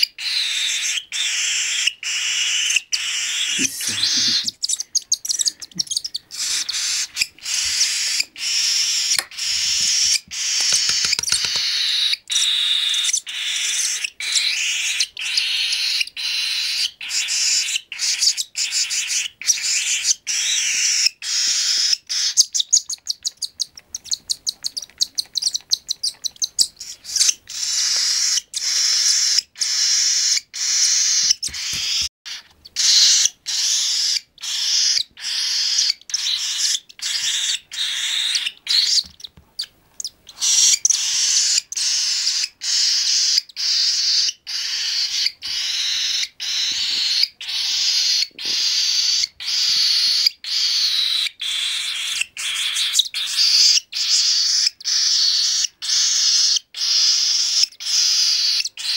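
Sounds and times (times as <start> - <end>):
cockatiel chicks begging calls: 0.0 - 58.9.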